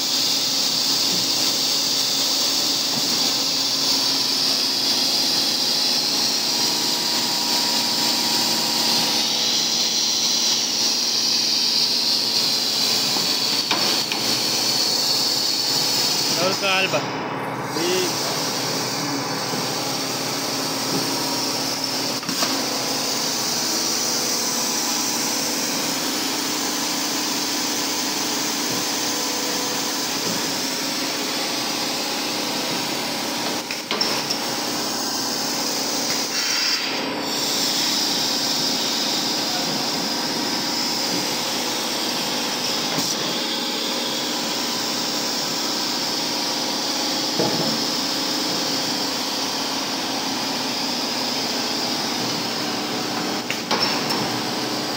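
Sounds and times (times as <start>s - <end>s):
machine hum and hiss: 0.0s - 54.9s.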